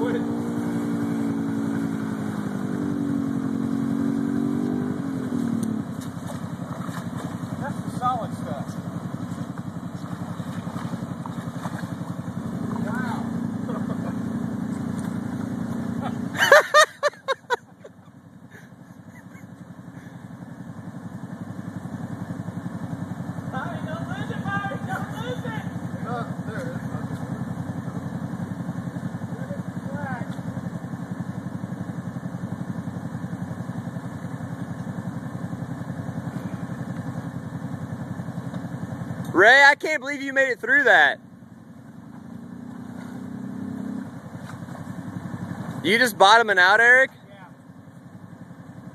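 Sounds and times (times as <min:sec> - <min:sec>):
off-road vehicle engine idling: 0:00.0 - 0:48.9.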